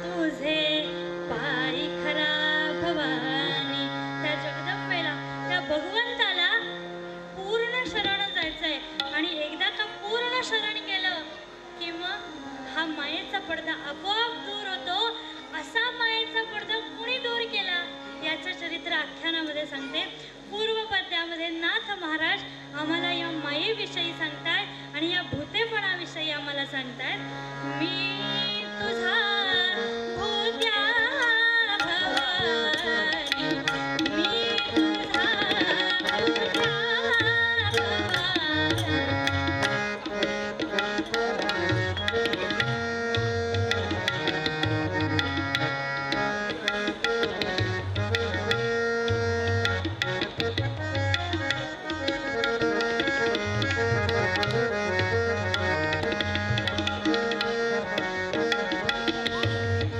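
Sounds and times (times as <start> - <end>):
tabla: 0.0 - 59.9.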